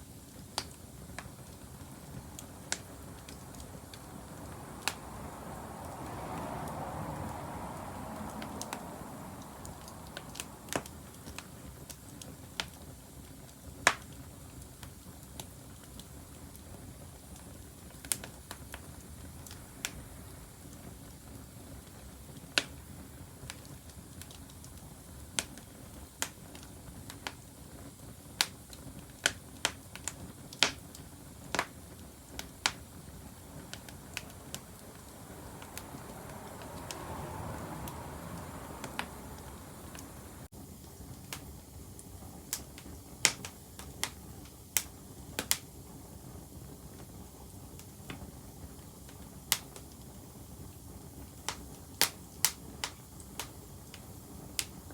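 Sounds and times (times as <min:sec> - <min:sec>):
soft hiss: 0:00.0 - 0:54.9
wood fire crackling: 0:00.0 - 0:54.9.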